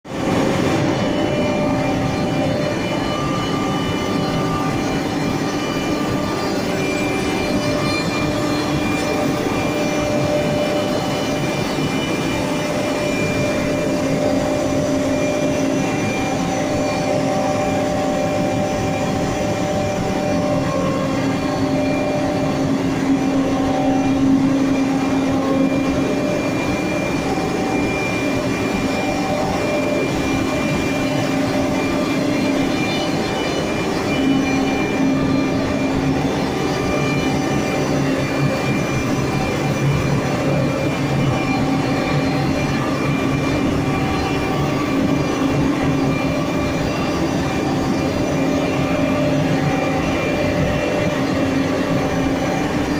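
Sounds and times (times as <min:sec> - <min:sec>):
cnc router whining hum: 0:00.1 - 0:52.9.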